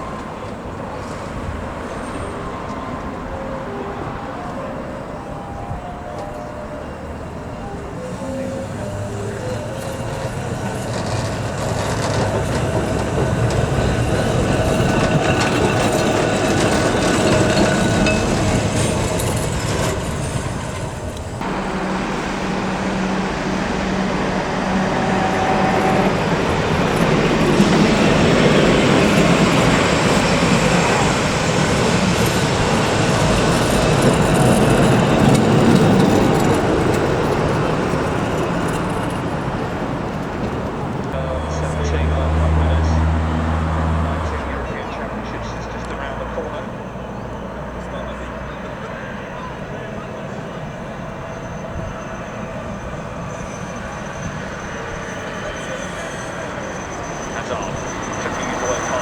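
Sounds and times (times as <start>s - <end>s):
electric tram running on tracks: 0.0s - 59.0s.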